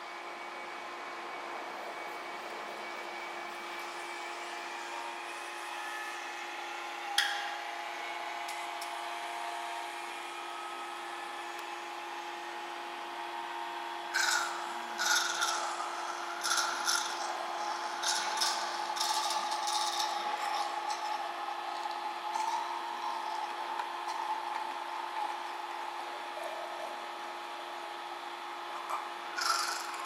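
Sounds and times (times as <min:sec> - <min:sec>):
mechanical hum: 0:00.0 - 0:30.0.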